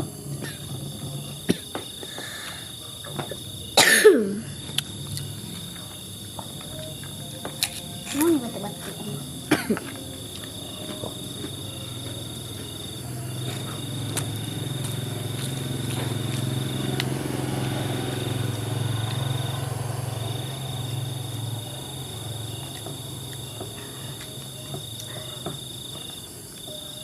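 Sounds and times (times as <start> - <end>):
cricket trilling: 0.0 - 27.0
motorbike engine passing by: 4.4 - 26.4.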